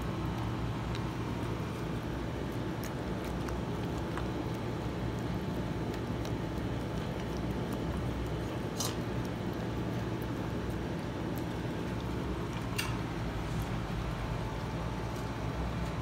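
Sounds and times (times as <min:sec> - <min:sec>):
dog crunching kibble: 0:00.0 - 0:16.0.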